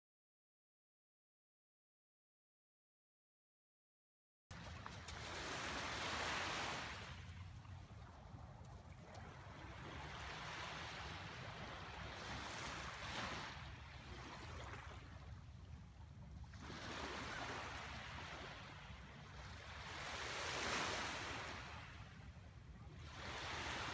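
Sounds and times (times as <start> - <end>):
surf washing on a beach: 4.5 - 23.9.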